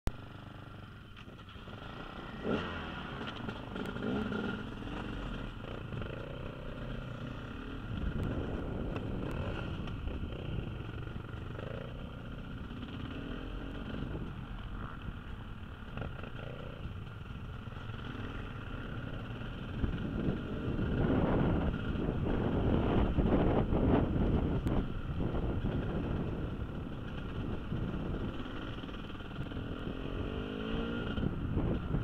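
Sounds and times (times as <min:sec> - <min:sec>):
dirt bike engine revving: 0:01.6 - 0:31.4.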